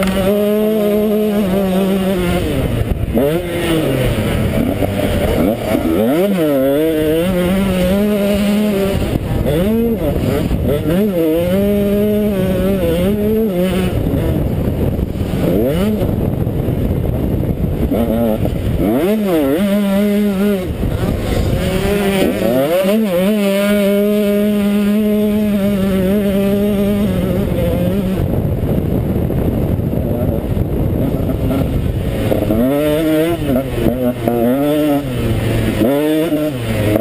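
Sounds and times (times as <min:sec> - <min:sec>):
motocross bike engine revving: 0:00.0 - 0:37.0
wind and track noise: 0:00.0 - 0:37.0.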